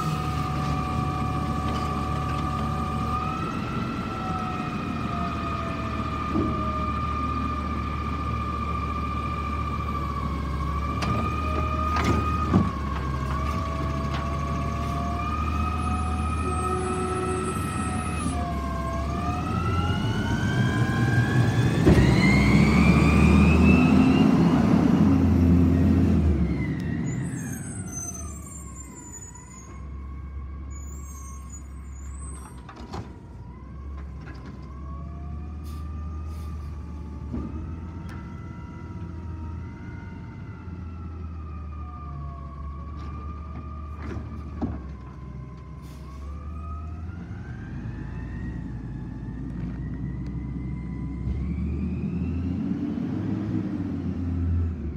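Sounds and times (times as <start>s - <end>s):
engine whine: 0.0s - 54.9s
garbage truck engine accelerating: 0.0s - 54.9s.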